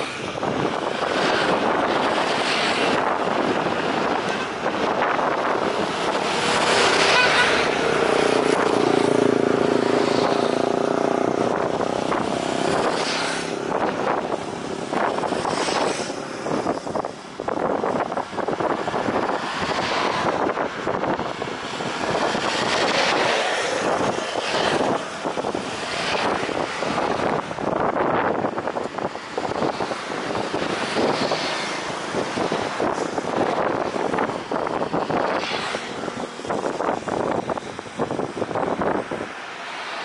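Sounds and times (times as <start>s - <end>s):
jet engine noise: 0.0s - 40.0s
wind buffeting microphone: 0.0s - 40.0s.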